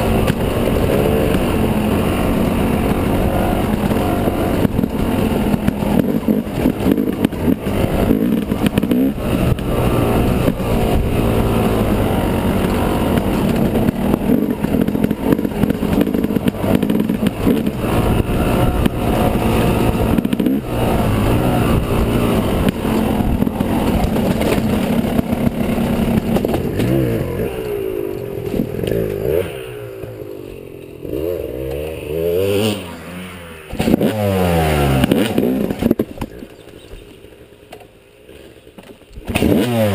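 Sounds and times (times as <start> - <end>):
dirt bike engine revving: 0.0 - 36.4, 39.2 - 39.9.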